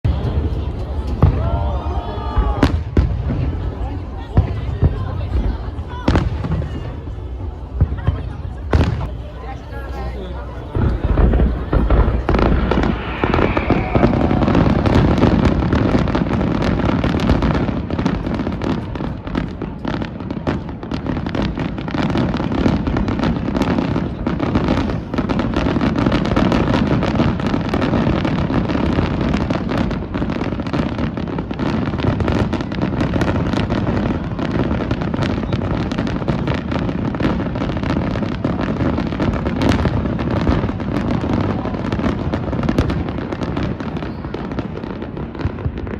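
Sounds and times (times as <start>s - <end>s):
fireworks booming: 0.0s - 45.9s
fireworks crackling and popping: 0.0s - 45.9s.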